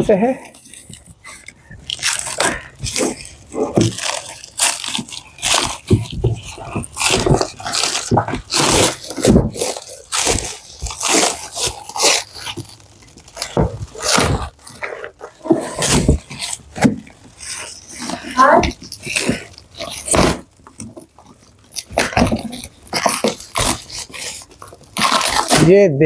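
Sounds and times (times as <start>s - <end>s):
packaging tearing and crunching: 0.2s - 25.7s.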